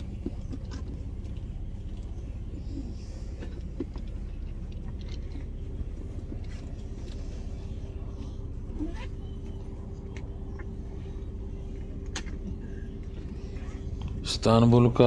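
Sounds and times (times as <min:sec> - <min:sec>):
constant hum: 0:00.0 - 0:15.0
ship engines droning: 0:00.0 - 0:15.0.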